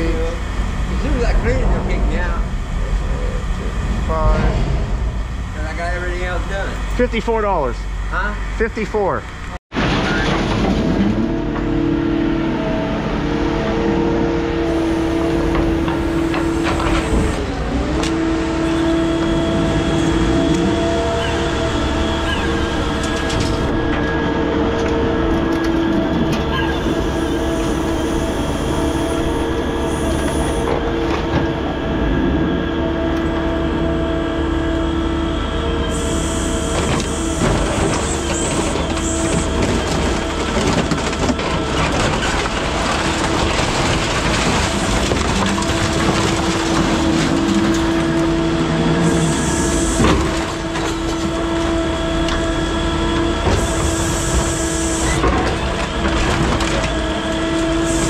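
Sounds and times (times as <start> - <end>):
hydraulic whine: 9.3 - 58.0.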